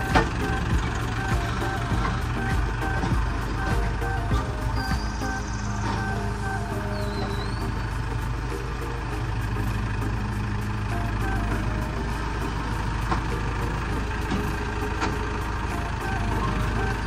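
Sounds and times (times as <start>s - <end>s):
heavy engine idling: 0.0s - 17.0s.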